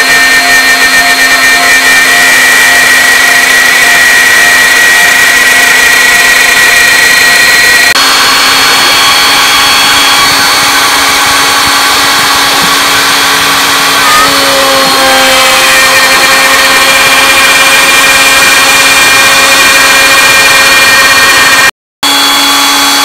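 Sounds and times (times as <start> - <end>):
router bit cutting wood: 0.0 - 23.0.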